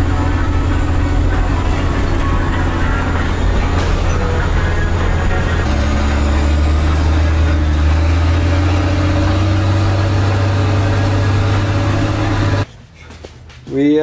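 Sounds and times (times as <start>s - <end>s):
diesel engine droning: 0.0s - 12.7s.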